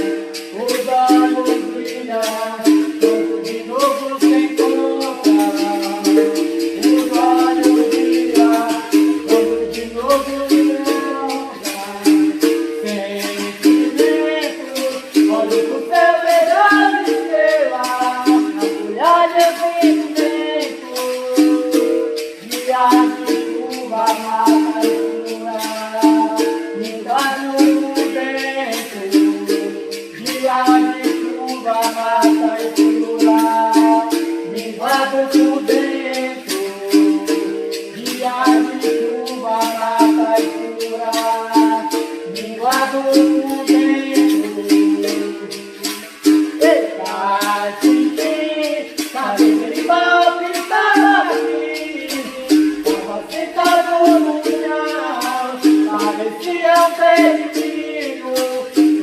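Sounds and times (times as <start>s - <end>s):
berimbau notes: 0.0s - 59.0s
shaker rattles: 0.0s - 59.0s.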